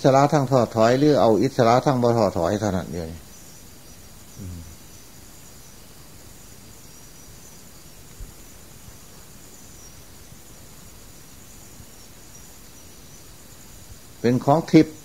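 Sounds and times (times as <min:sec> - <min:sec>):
background hiss: 0:00.0 - 0:15.0
faint insect chirring: 0:00.0 - 0:15.0.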